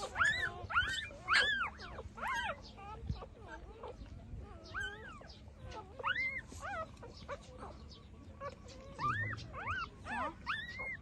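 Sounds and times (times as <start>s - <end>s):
puppies whimpering: 0.0s - 11.0s.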